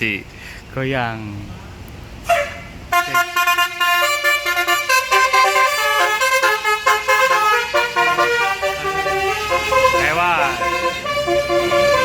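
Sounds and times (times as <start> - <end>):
multi-trumpet bus horn melody: 2.2 - 12.0.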